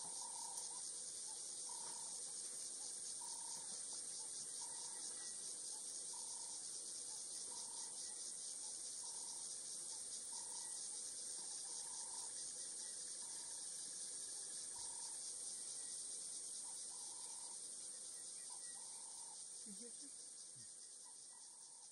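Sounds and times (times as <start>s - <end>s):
insects buzzing high-pitched: 0.0s - 21.9s
short faint insect calls: 0.0s - 21.9s.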